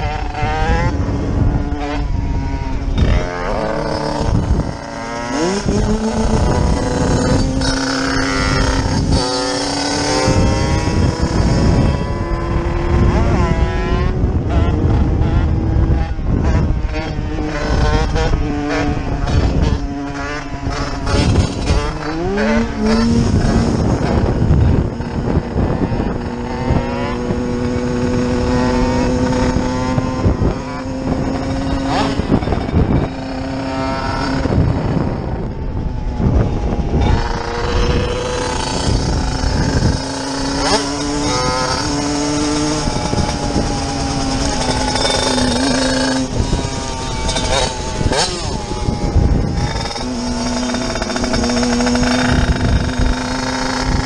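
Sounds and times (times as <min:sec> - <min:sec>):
motorcycle engines revving: 0:00.0 - 0:54.0
wind on microphone: 0:00.0 - 0:54.0.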